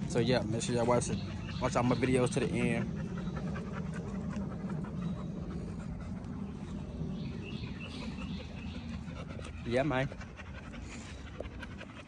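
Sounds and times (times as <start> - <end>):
dogs panting: 0.0 - 12.0
faint bird calls: 0.3 - 12.0.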